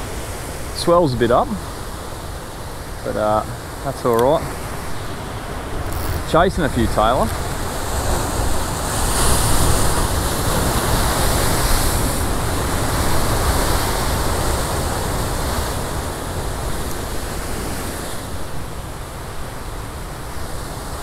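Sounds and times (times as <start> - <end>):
surf breaking over rocks: 0.0 - 21.0.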